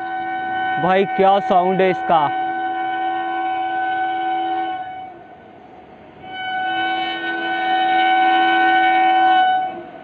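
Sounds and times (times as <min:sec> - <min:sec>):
locomotive horn blast: 0:00.0 - 0:10.0.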